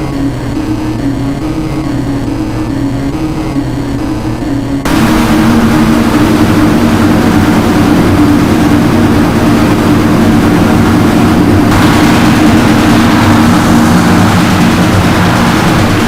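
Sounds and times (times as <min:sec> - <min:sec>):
electronic drone with noisy rush: 0:00.0 - 0:16.0.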